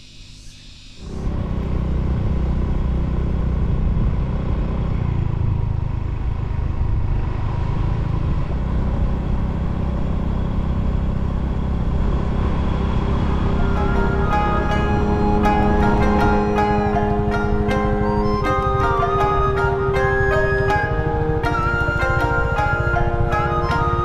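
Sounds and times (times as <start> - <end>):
vehicle engine rumble: 1.0 - 24.0.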